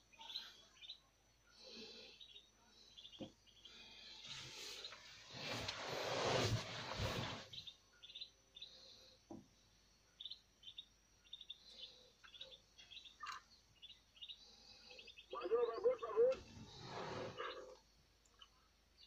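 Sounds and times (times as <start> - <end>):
small birds chirping: 0.0 - 5.5, 7.0 - 19.0.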